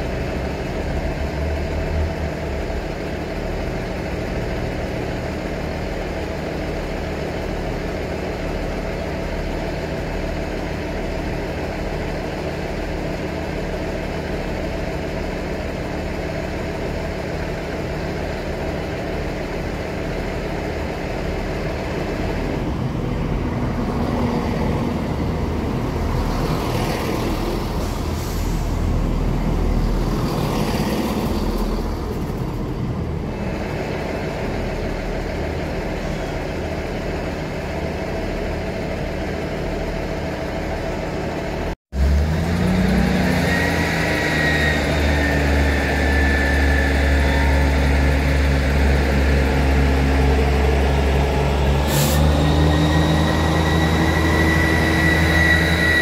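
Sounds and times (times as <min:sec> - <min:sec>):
diesel train idling: 0:00.0 - 0:56.0
diesel train passing: 0:00.0 - 0:56.0
high-pitched train noise: 0:00.0 - 0:56.0.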